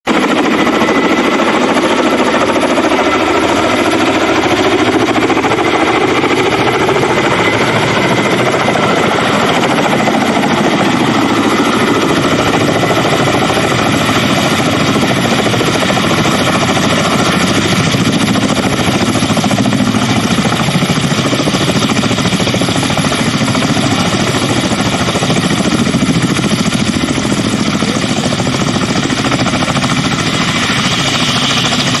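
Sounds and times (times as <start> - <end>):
helicopter rotors chopping: 0.1 - 32.0.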